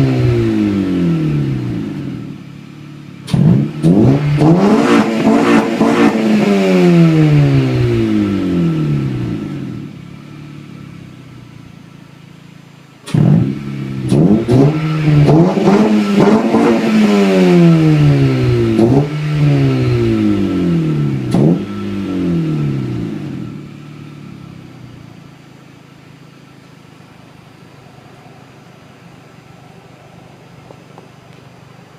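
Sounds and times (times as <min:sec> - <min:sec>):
car engine idling: 0:00.0 - 0:31.9
car engine revving: 0:00.0 - 0:31.9.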